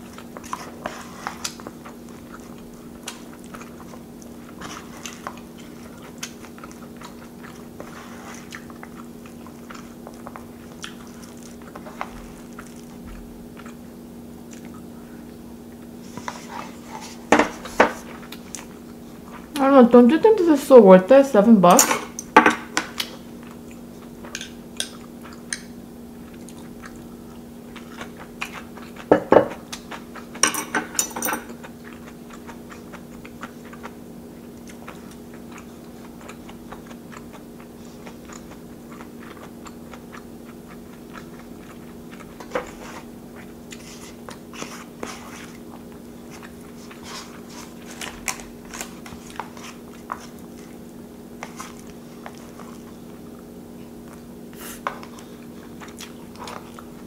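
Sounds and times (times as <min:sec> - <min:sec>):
chewing rice: 0:00.0 - 0:19.6, 0:22.2 - 0:30.4, 0:31.4 - 0:57.0.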